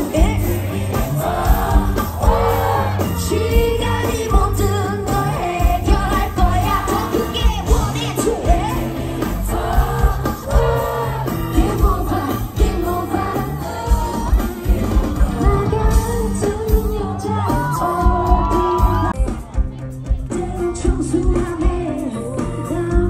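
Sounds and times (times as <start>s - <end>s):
woman singing: 0.0s - 19.2s, 20.2s - 23.0s
band with drum beat: 0.0s - 23.0s.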